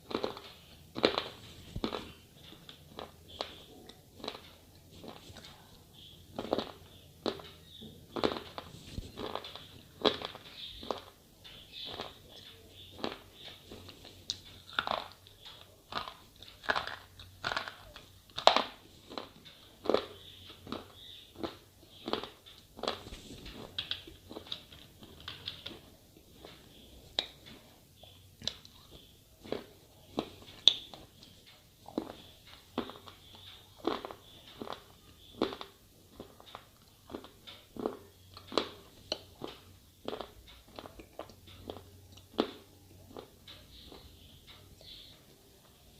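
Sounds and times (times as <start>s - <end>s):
person crunching slate pencils: 0.0s - 42.5s.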